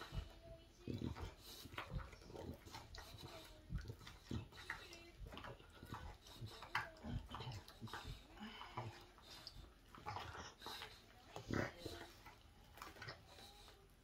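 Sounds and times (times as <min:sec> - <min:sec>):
dog chewing on a bone: 0:00.0 - 0:14.0.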